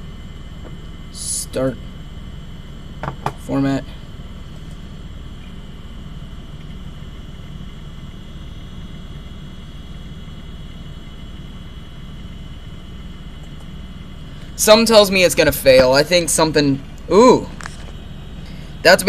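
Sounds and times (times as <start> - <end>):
computer hardware whir and hum: 0.0 - 19.0
hard drive spinning: 0.0 - 19.0.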